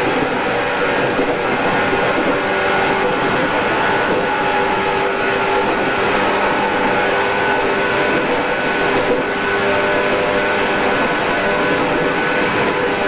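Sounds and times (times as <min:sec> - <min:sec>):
steady tones from running gear: 0:00.0 - 0:13.0
train wheels rumbling on rails: 0:00.0 - 0:13.0.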